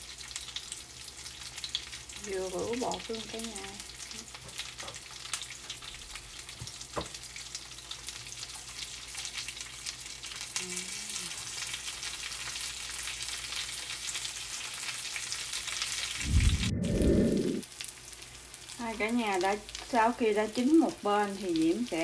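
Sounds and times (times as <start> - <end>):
oysters sizzling in hot oil: 0.0 - 16.2, 17.6 - 22.0.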